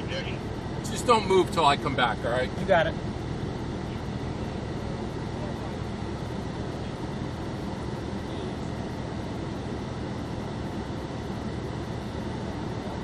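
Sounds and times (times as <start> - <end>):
car engine idling: 0.0 - 13.0
car ventilation hiss: 0.0 - 13.0.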